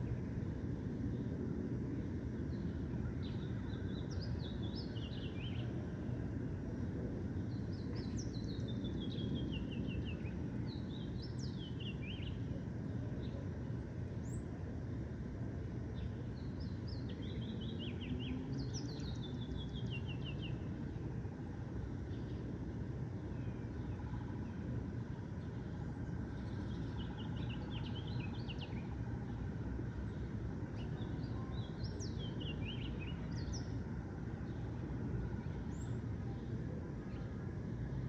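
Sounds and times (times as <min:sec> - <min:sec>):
low background rumble: 0:00.0 - 0:38.0
songbird chirping: 0:02.4 - 0:06.0, 0:07.4 - 0:13.6, 0:15.8 - 0:21.0, 0:21.8 - 0:37.4.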